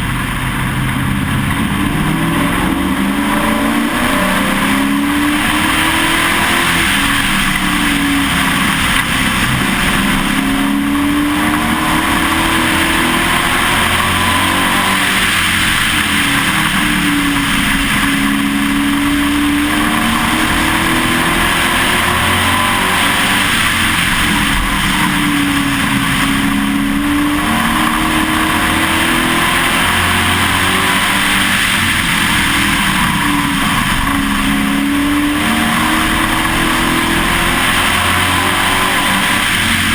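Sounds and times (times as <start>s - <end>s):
truck engine racing: 0.0s - 39.9s
wind and road noise: 0.0s - 39.9s.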